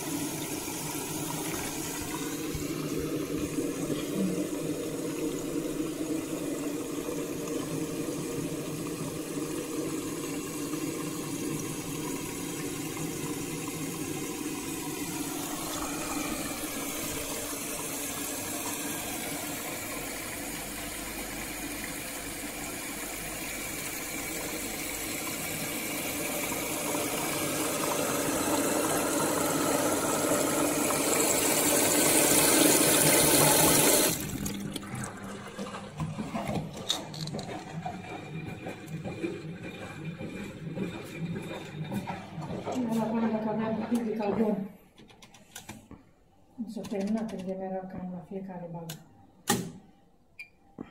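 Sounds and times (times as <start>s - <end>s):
water rushing and draining: 0.0s - 43.8s
washing machine spinning: 0.0s - 44.8s.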